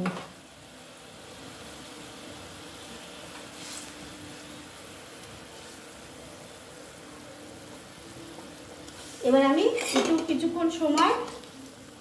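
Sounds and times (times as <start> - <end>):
curry boiling and bubbling: 0.0 - 12.0
eggs hissing into boiling gravy: 0.0 - 12.0.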